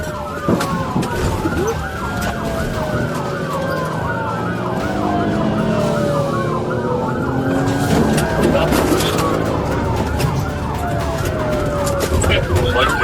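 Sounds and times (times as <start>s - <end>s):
engine and road rumble: 0.0s - 13.0s
police siren yelping: 0.0s - 13.0s
siren wailing: 0.0s - 13.0s.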